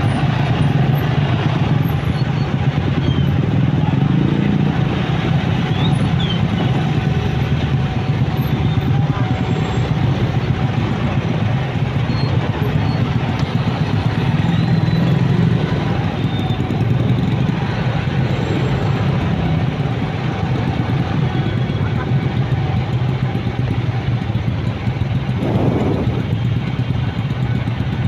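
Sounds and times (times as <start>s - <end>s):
traffic engines droning: 0.0s - 28.0s.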